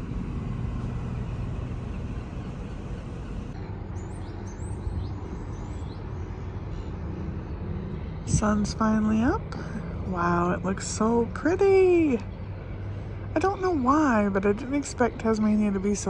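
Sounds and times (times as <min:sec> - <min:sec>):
birds chirping: 0:00.0 - 0:16.0
steady low rumble: 0:00.0 - 0:16.0
wind: 0:00.0 - 0:16.0.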